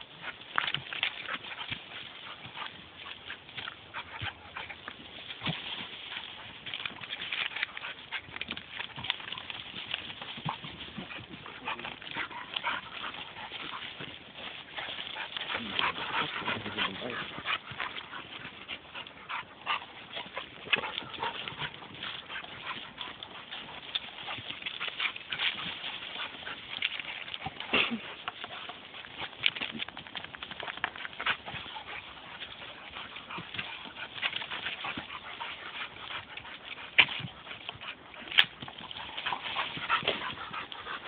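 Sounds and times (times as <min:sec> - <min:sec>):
dog vocal sounds: 0:00.0 - 0:41.0.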